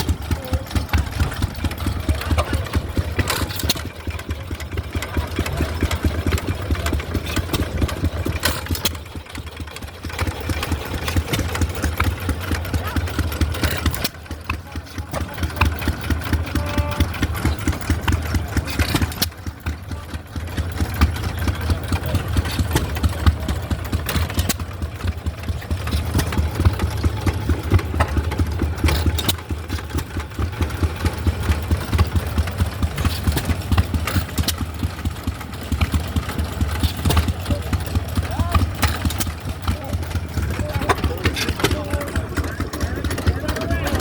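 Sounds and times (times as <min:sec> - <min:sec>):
stationary engines running: 0:00.0 - 0:44.0.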